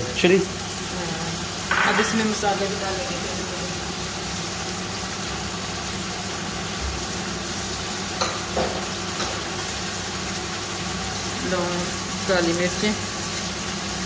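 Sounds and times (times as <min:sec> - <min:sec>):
food sizzling and bubbling in a pot: 0:00.0 - 0:14.0.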